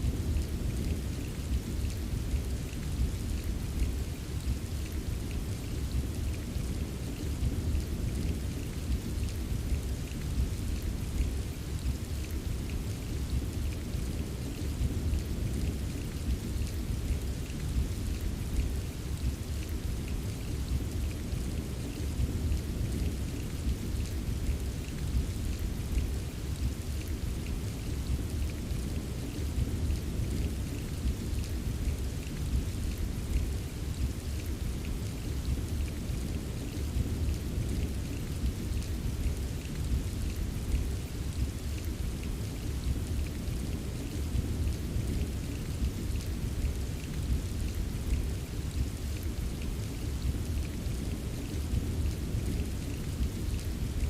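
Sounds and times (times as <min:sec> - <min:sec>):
rainfall: 0:00.0 - 0:54.0.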